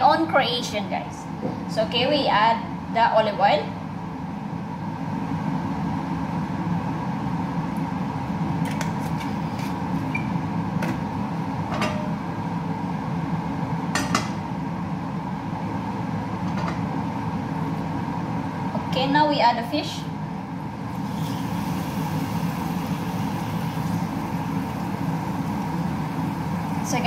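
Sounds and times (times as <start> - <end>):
extractor fan humming: 0.0 - 27.0.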